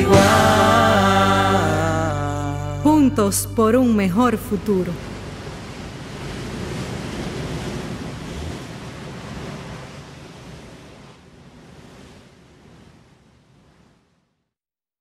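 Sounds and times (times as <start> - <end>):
ocean surf waves: 0.0 - 14.2.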